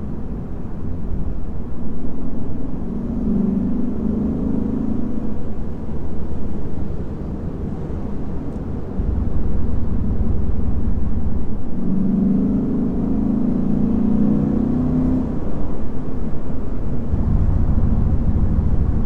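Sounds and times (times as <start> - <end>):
car engine and exhaust: 0.0 - 19.0
road noise rumble: 0.0 - 19.0.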